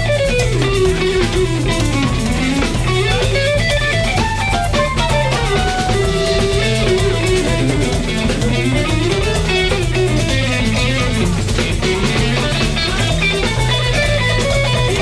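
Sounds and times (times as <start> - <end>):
bass guitar: 0.0 - 15.0
drum kit: 0.0 - 15.0
guitar: 0.0 - 15.0.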